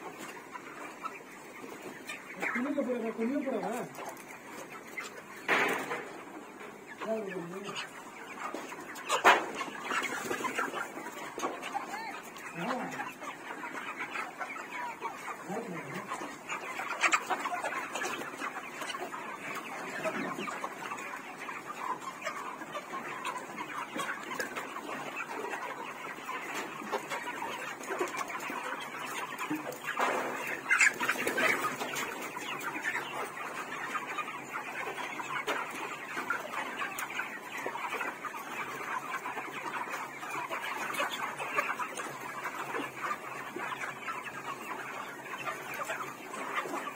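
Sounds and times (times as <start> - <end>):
chicken squawks: 0.0 - 46.9
chickens clucking: 0.0 - 46.9.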